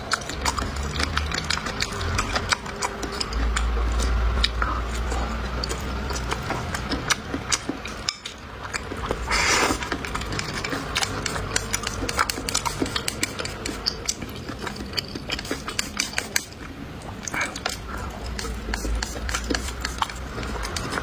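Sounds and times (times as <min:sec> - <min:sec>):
utensils clicking against dishes: 0:00.0 - 0:16.6, 0:17.2 - 0:21.0
wet chewing: 0:00.0 - 0:21.0.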